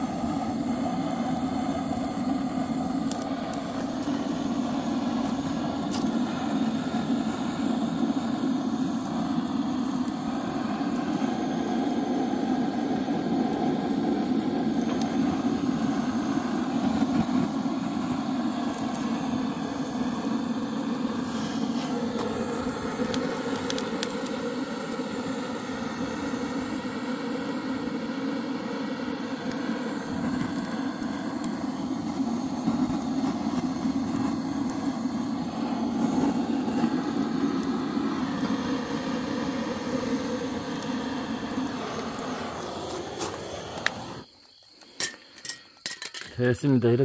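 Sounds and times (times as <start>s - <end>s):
gas torch flame blasting: 0.0s - 46.2s.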